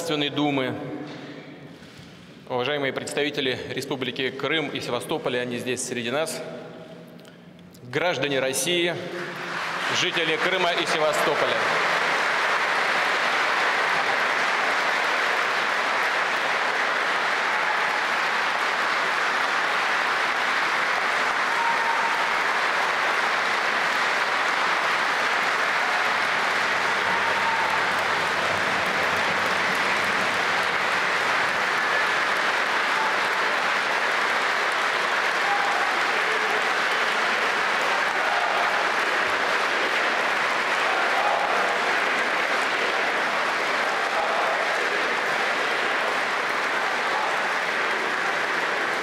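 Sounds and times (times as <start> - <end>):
audience applauding: 8.8 - 49.0.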